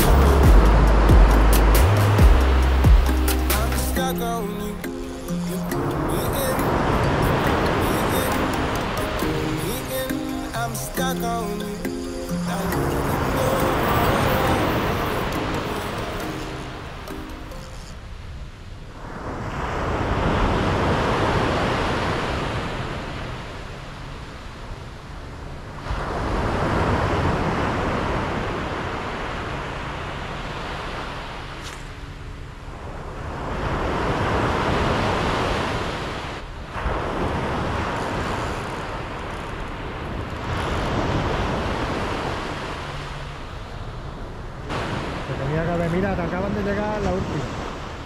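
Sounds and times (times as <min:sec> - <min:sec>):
surf breaking on beach: 0:00.0 - 0:18.0, 0:18.9 - 0:24.8, 0:25.6 - 0:32.0, 0:32.7 - 0:48.0.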